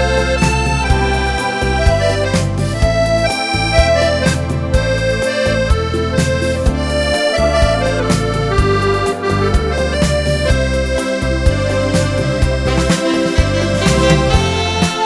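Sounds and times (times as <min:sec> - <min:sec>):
accordion playing a melody: 0:00.0 - 0:15.0.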